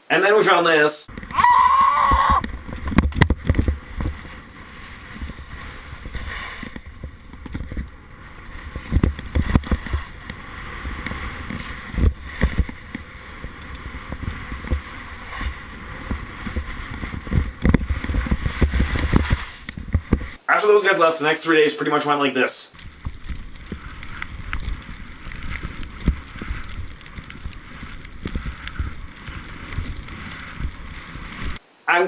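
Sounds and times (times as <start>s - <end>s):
wind buffeting microphone: 1.1s - 20.4s, 22.8s - 31.6s.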